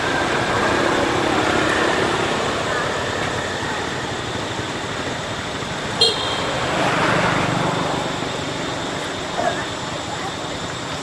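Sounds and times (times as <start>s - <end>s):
low traffic-like rumbling: 0.0s - 11.0s
outdoor background noise: 0.0s - 11.0s.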